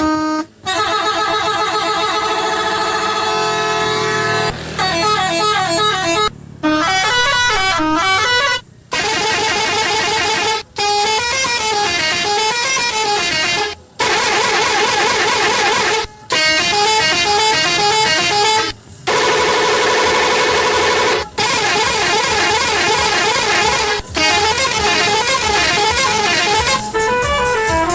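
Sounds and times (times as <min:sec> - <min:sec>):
multi-tone horn melody: 0:00.0 - 0:27.9.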